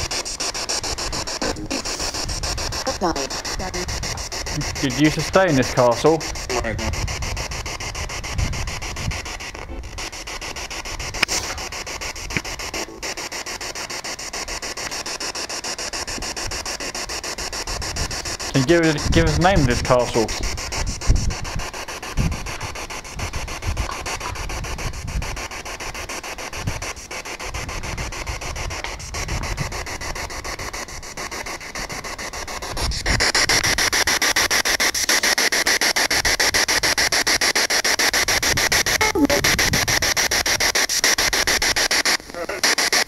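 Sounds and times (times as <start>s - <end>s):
pulsing radio static: 0.0s - 43.0s.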